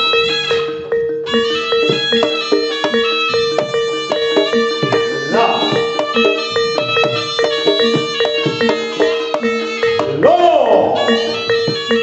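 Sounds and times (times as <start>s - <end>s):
gamelan music: 0.0s - 12.0s.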